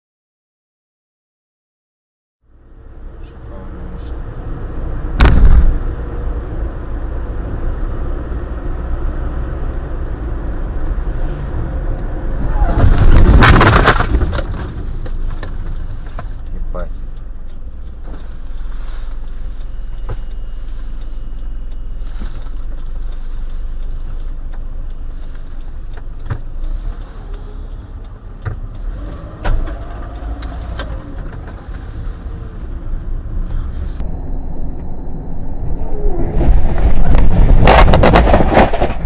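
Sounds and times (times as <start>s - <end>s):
car road and engine rumble: 2.4s - 39.0s.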